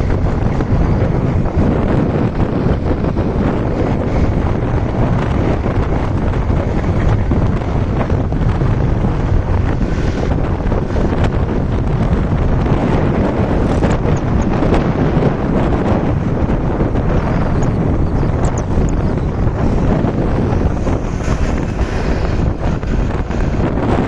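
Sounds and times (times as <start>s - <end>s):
motorbike road and engine rumble: 0.0s - 24.0s
wind buffeting microphone: 0.0s - 24.0s.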